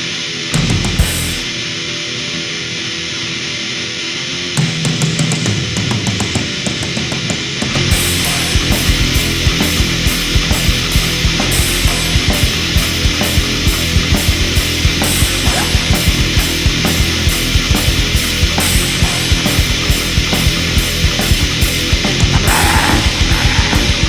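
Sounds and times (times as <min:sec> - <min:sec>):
black metal music: 0:00.5 - 0:01.8, 0:04.6 - 0:24.0
steady drum beat: 0:00.6 - 0:01.6, 0:05.0 - 0:24.0.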